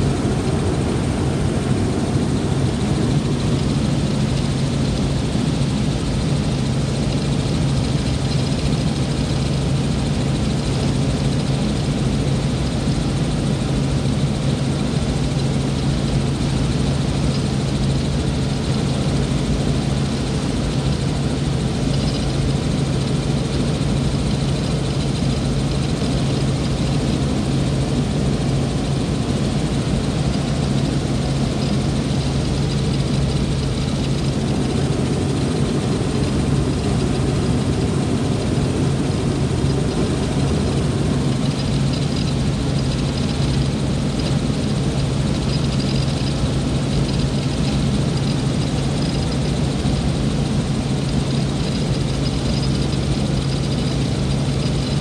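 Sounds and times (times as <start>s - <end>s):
helicopter cabin drone: 0.0s - 55.0s.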